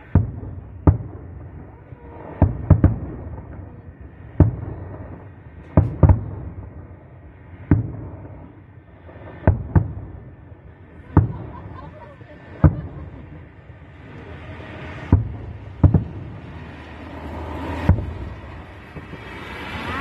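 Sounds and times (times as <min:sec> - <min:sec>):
firework bangs: 0:00.0 - 0:20.0
low rumble: 0:00.0 - 0:20.0.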